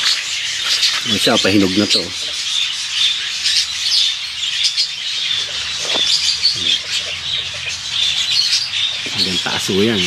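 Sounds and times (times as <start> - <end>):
birds chirping and squawking: 0.0 - 10.0.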